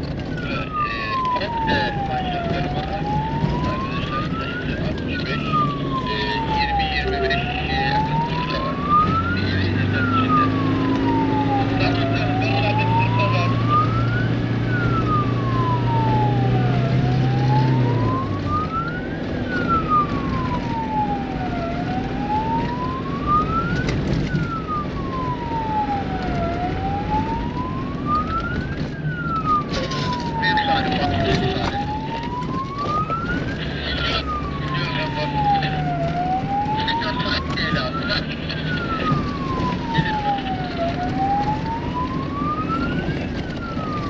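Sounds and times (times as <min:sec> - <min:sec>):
off-road vehicle engine and rolling: 0:00.0 - 0:44.0
siren wailing: 0:00.0 - 0:44.0.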